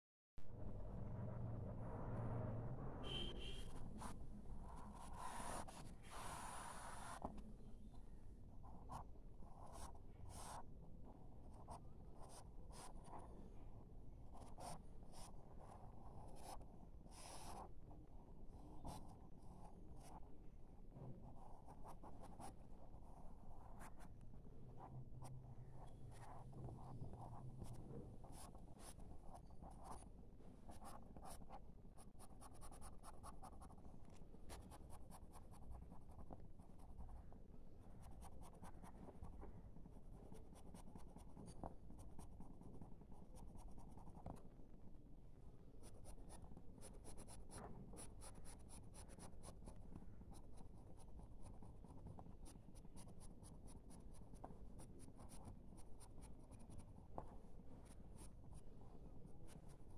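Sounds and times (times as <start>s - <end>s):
pencil scratching on paper: 3.0s - 8.0s, 8.6s - 10.7s, 11.4s - 13.7s, 14.3s - 20.4s, 21.0s - 44.6s, 45.8s - 59.9s.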